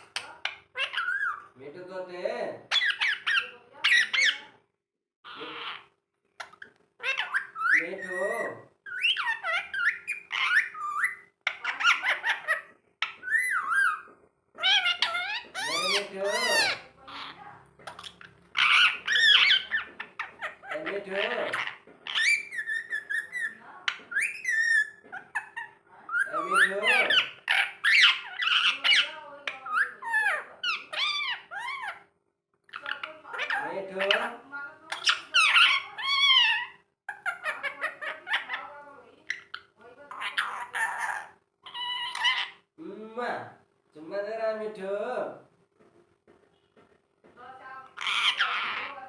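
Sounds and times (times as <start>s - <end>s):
parakeet squeaky chattering calls: 0.0s - 1.6s, 2.7s - 4.6s, 5.3s - 42.7s, 47.9s - 49.0s.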